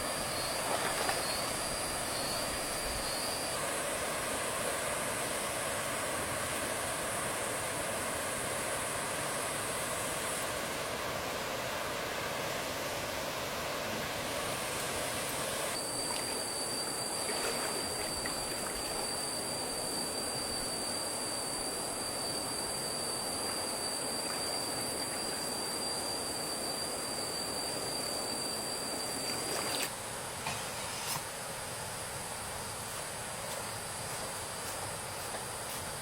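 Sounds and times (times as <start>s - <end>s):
flowing stream water: 0.0s - 30.5s
high insect drone: 0.0s - 36.0s.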